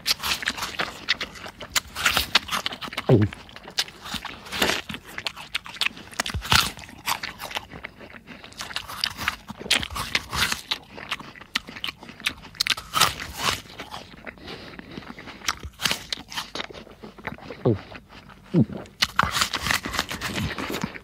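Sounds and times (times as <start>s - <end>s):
crunchy apple chewing: 0.0s - 21.0s.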